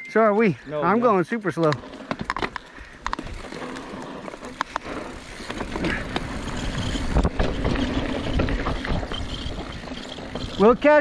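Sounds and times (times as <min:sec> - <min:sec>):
bike rattling over bumps: 0:00.9 - 0:11.0
bike tyres on loose rock: 0:00.9 - 0:11.0.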